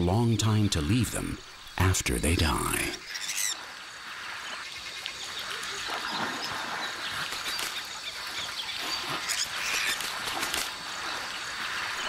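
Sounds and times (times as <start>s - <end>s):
birds calling: 0.0s - 12.0s
natural background hiss: 0.0s - 12.0s.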